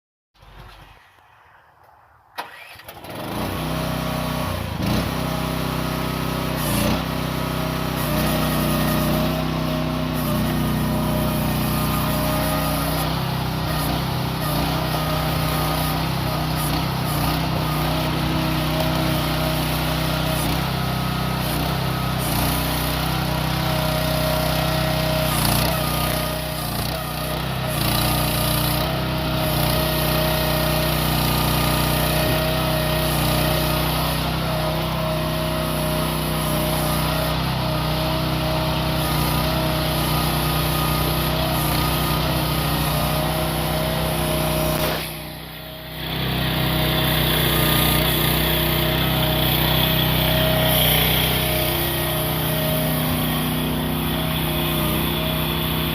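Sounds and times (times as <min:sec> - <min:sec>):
excavator engine running: 0:00.4 - 0:55.9
whining tone: 0:08.0 - 0:55.9.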